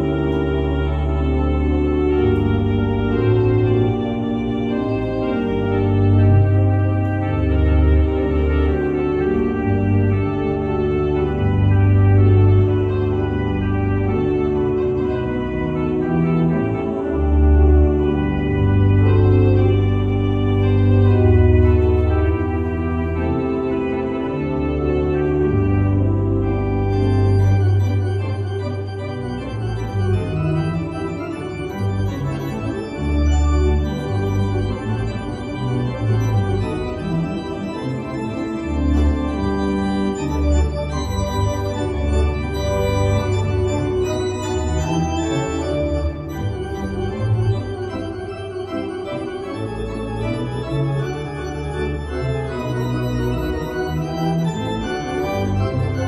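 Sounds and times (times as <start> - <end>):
organ pedal bass line: 0.0 - 56.0
organ playing full chords: 0.0 - 56.0.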